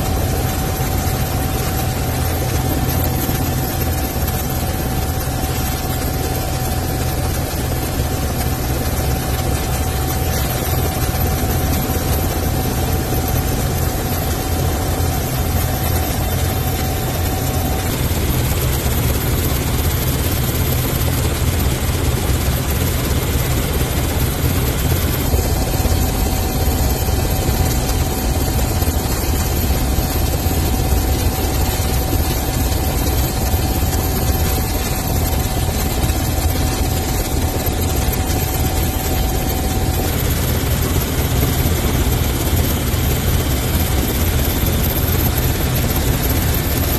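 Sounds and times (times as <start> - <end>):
helicopter engine and rotor rumble: 0.0 - 46.9
thin steady whine: 0.0 - 46.9.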